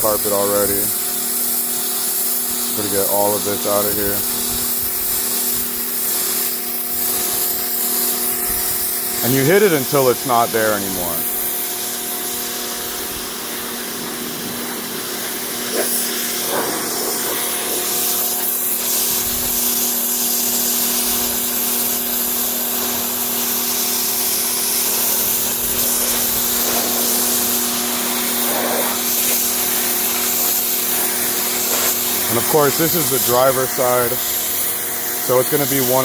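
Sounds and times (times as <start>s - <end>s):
pressure washer motor hum: 0.0s - 36.0s
water jet hissing on carpet: 0.0s - 36.0s.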